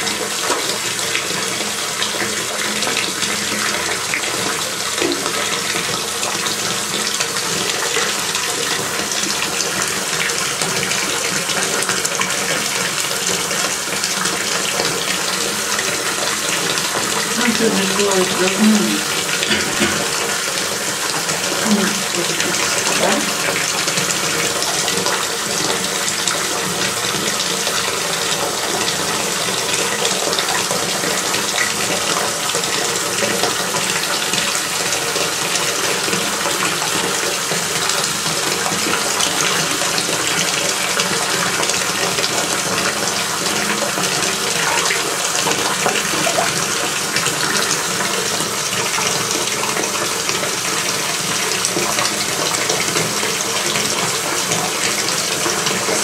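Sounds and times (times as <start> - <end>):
tap running into bathtub: 0.0 - 56.0.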